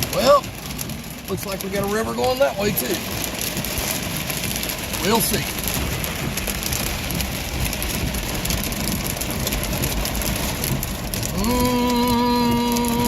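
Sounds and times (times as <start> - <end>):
rain and water noise: 0.0 - 13.0.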